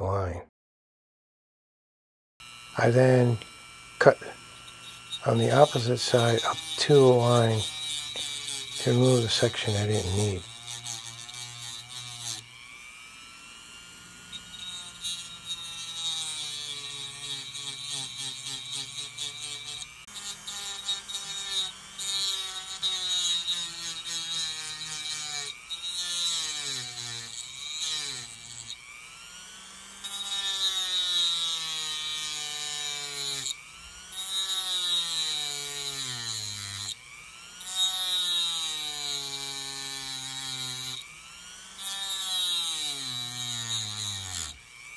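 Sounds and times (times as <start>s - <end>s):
rotary tool motor whine: 2.4s - 44.9s
gritty grinding hiss: 2.5s - 12.5s, 13.3s - 28.8s, 29.9s - 44.9s.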